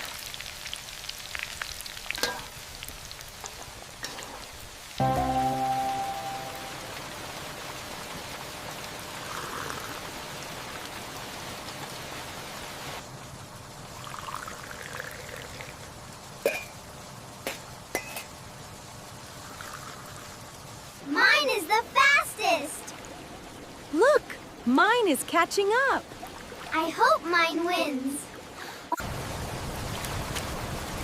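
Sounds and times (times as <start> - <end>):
steady rain: 0.0 - 31.0
water running and trickling: 0.0 - 31.0.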